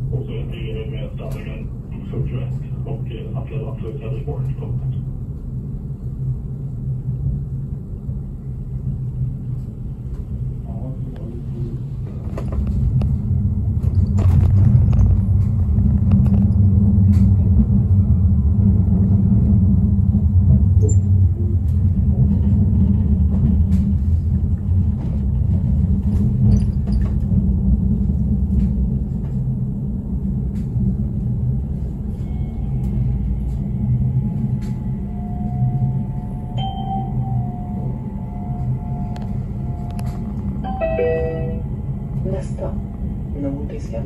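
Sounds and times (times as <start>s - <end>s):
tram rumbling on track: 0.0s - 44.0s.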